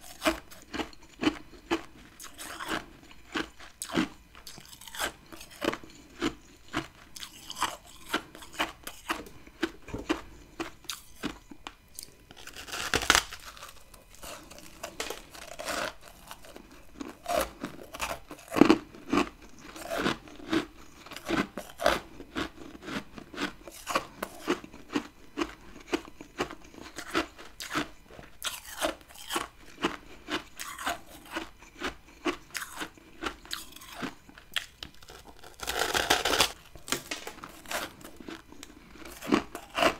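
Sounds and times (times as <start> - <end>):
chewing ice crunches: 0.0 - 39.9.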